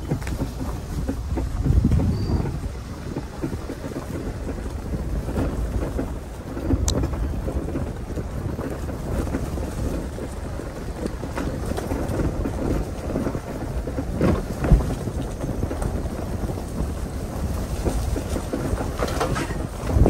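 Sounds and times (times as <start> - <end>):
vehicle tyres rumbling on dirt track: 0.0 - 20.0
wind buffeting microphone: 0.0 - 20.0.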